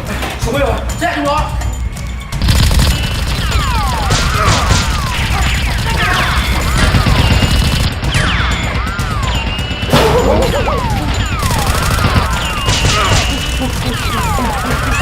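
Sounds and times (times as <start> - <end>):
rapid gunshots: 2.2 - 15.0.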